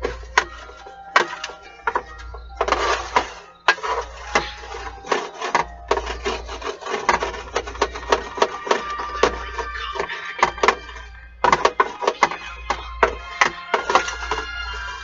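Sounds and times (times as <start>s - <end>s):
wooden spoon knocking on metal tray: 0.0s - 14.9s.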